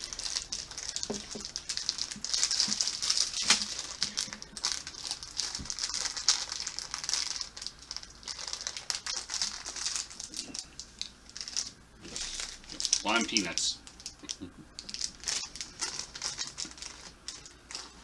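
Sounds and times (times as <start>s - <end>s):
plastic snack bag crinkling: 0.0s - 18.0s.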